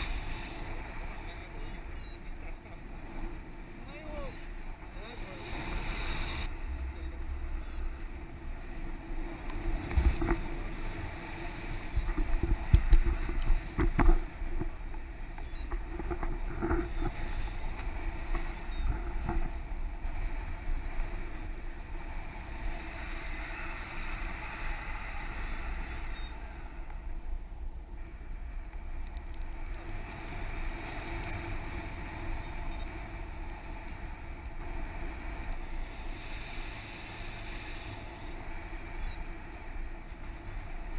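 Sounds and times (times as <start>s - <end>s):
wind rushing over microphone: 0.0s - 40.9s
wind buffeting thumps: 4.4s - 40.9s.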